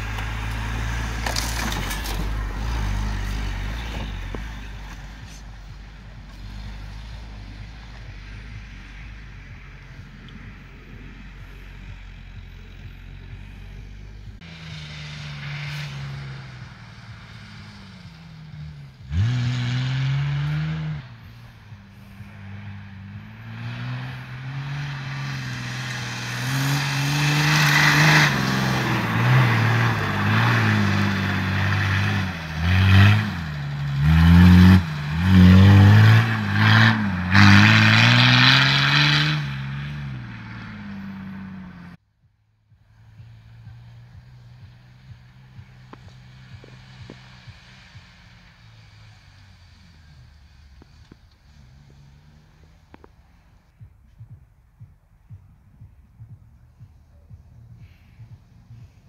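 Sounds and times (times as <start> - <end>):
off-road vehicle engine labouring: 0.0 - 59.0.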